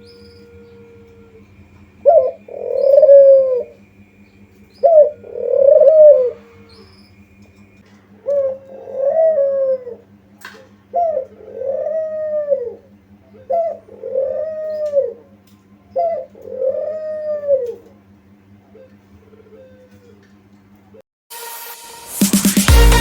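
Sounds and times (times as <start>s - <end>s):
dove cooing: 0.0s - 3.9s, 4.5s - 7.1s, 7.8s - 20.3s.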